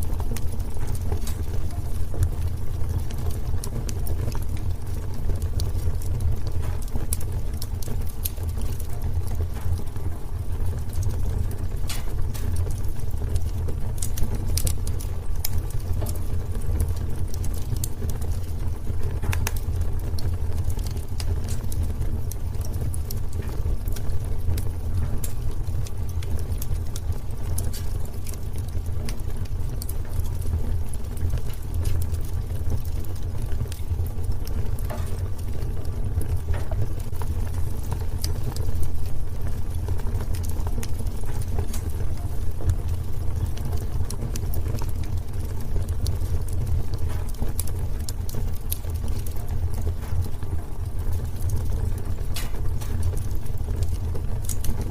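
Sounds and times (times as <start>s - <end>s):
fire crackling: 0.0s - 54.9s
low rumble of flames: 0.0s - 54.9s.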